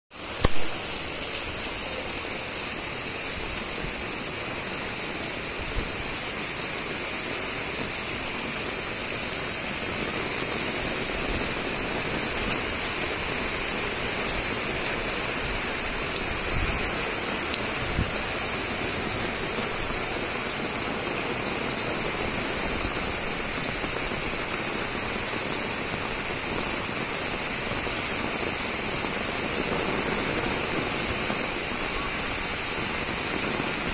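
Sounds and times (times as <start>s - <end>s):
heavy rain on concrete rooftop: 0.1s - 33.9s.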